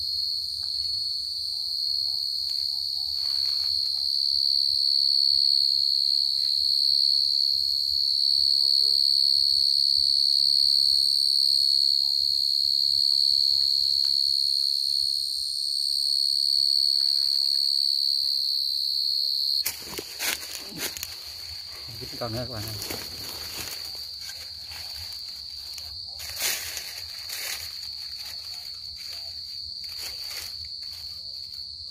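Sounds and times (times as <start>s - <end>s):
cricket trilling: 0.0s - 31.9s.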